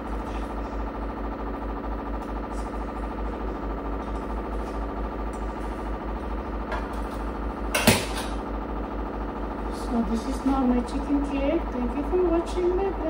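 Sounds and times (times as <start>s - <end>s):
mechanical hum: 0.0s - 13.0s
pulsing low drone: 0.0s - 13.0s.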